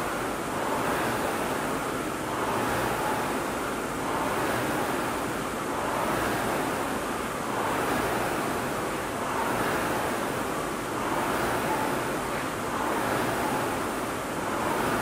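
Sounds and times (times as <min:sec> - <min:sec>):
rowing machine whooshing: 0:00.0 - 0:15.0.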